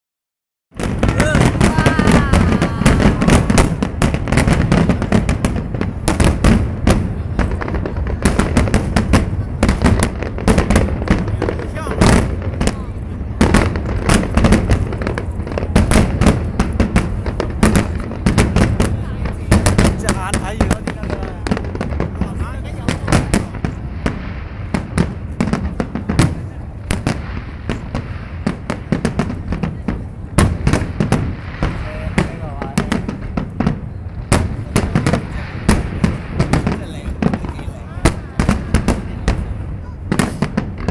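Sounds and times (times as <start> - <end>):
fireworks bursting: 0.7 - 40.9
fireworks crackling: 0.8 - 40.9.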